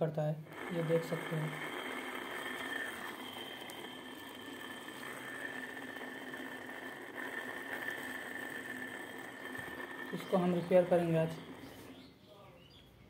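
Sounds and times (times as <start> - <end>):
electric fan whirring: 0.0 - 12.3
bearing grinding noise: 0.4 - 12.2.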